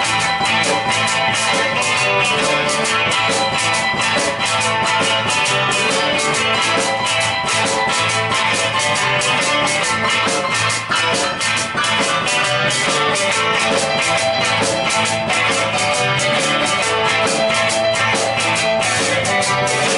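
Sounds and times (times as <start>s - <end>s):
drum kit beat: 0.0s - 19.9s
guitar: 0.0s - 19.9s
live rock band playing: 0.0s - 19.9s.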